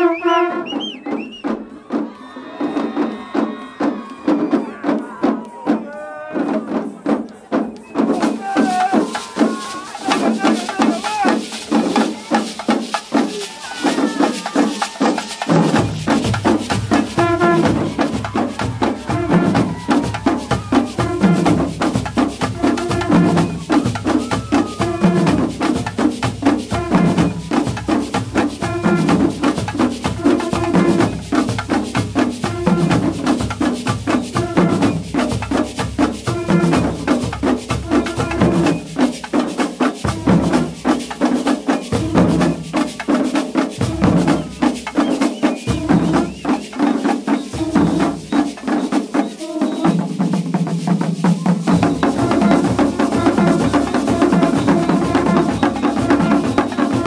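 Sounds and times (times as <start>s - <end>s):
drums beaten in driving rhythm: 0.0s - 57.0s.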